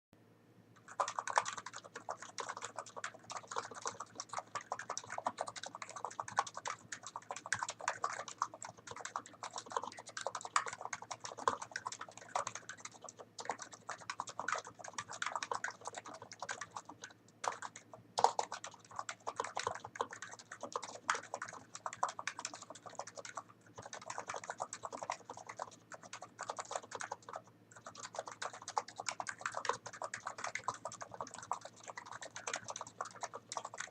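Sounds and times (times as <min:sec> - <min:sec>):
deep thocky keyboard typing: 0:00.8 - 0:33.9.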